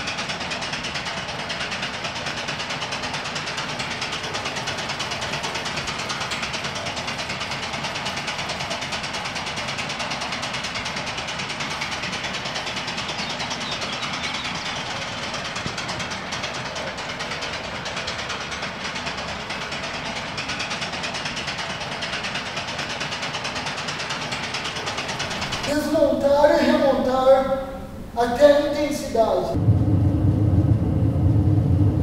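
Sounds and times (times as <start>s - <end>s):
pulsing mechanical noise: 0.0s - 32.0s.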